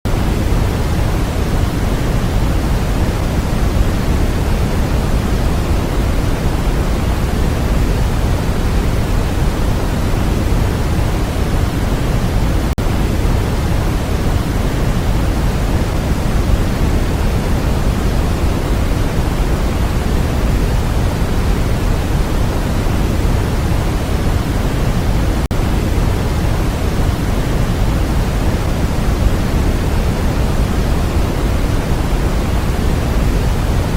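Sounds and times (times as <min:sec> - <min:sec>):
electronic pink noise hiss: 0:00.1 - 0:33.9.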